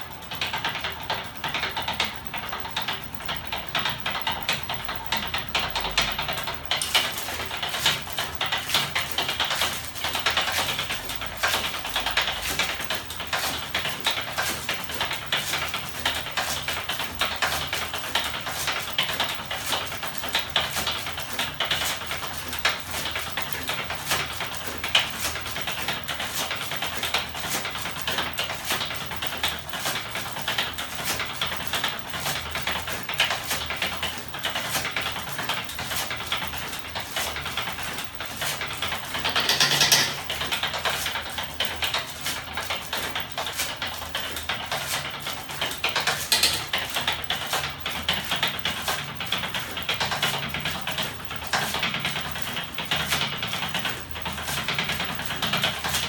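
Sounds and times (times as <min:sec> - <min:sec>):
small motor engine clattering: 0:00.0 - 0:56.0.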